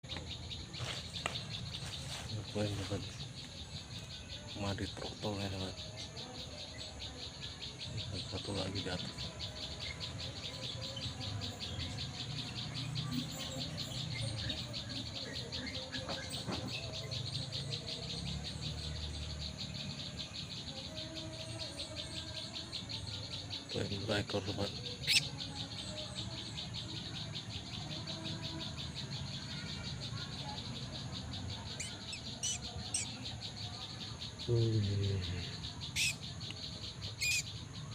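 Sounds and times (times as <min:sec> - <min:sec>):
bird chirps: 0:00.0 - 0:37.9
insects trilling: 0:00.0 - 0:37.9.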